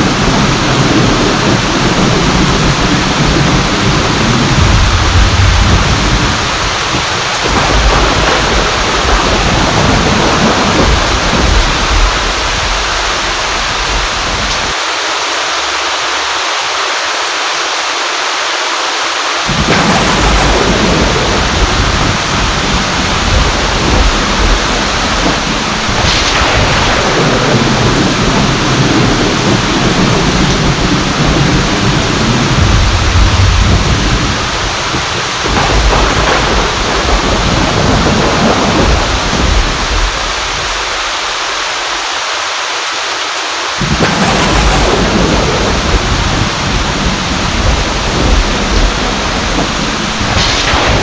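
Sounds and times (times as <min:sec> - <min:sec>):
rolling thunder: 0:00.0 - 0:14.8, 0:19.5 - 0:41.6, 0:43.8 - 0:51.0
heavy rain falling: 0:00.0 - 0:51.0.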